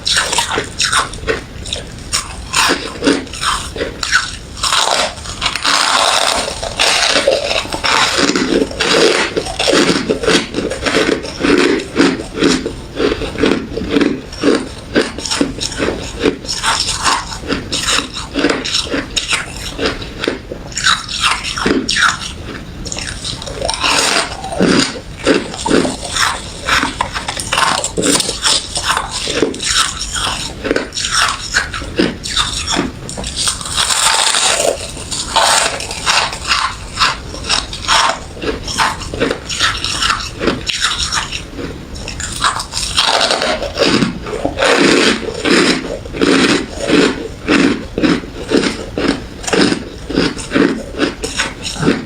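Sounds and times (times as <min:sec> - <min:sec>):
chewing crushed ice: 0:00.0 - 0:52.0.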